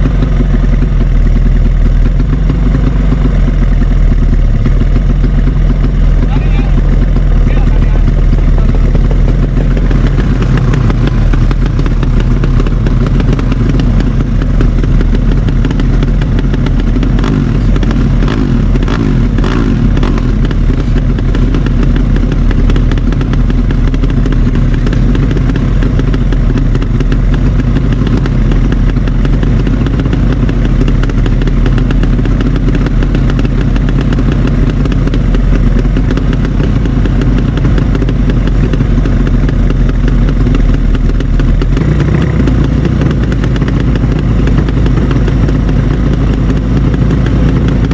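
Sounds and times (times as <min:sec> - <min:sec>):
motorcycle engines running loudly: 0:00.0 - 0:47.9
sharp crackles: 0:00.4 - 0:47.9.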